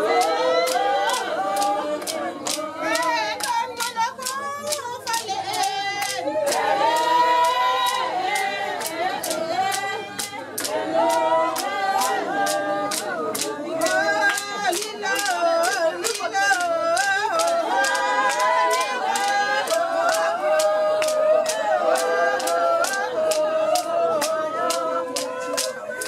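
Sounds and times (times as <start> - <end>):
hand clapping: 0.0 - 26.0
women singing in unison: 0.0 - 26.0.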